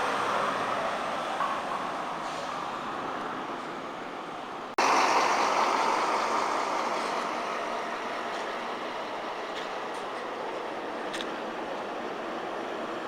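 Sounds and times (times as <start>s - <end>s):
bus rumbling on the road: 0.0s - 13.0s.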